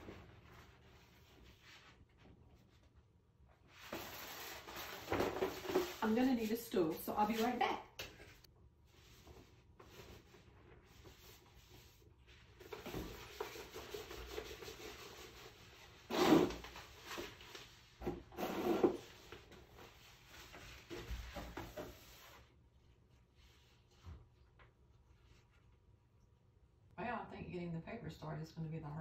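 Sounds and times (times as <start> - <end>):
contact paper rustling against door: 0.0 - 25.8.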